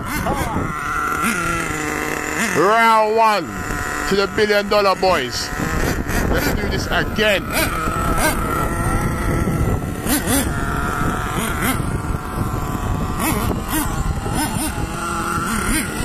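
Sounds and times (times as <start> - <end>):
small nitro engines revving: 0.0 - 16.0.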